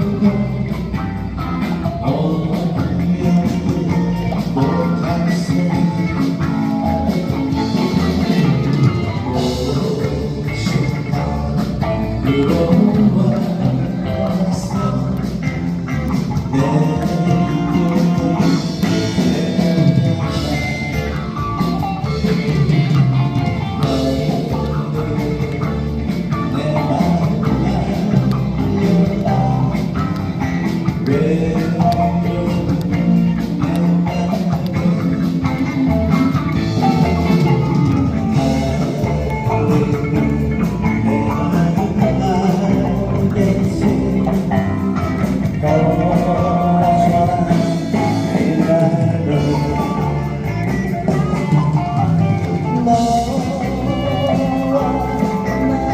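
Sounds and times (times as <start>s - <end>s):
bass guitar: 0.0s - 55.9s
drum kit: 0.0s - 55.9s
electric guitar: 0.0s - 55.9s
person singing: 0.0s - 55.9s.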